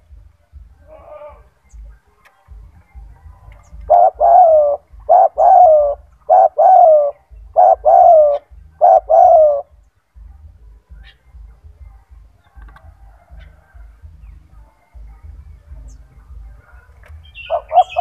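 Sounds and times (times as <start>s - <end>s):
dove cooing: 2.5s - 18.0s.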